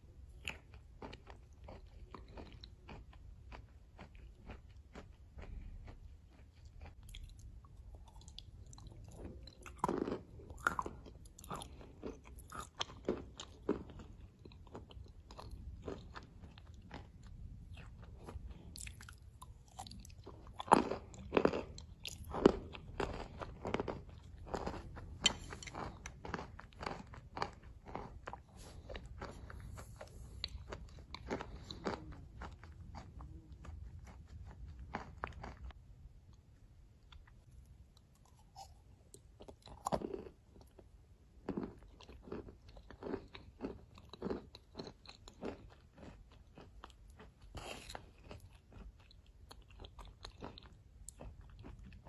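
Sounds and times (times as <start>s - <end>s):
crunching and chewing: 0.0s - 52.0s.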